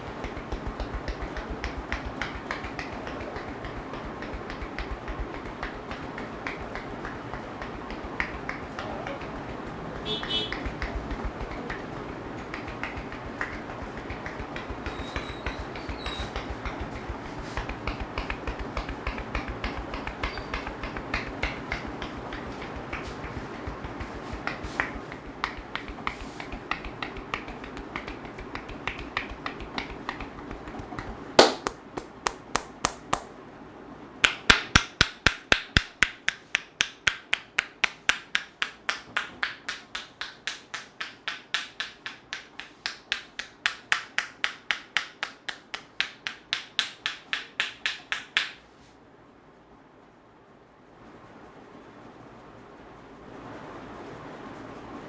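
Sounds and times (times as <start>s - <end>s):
hands tapping a head: 0.0s - 33.3s, 34.2s - 48.7s
loud slap: 0.0s - 33.3s, 34.2s - 48.6s
background hiss: 0.0s - 55.0s.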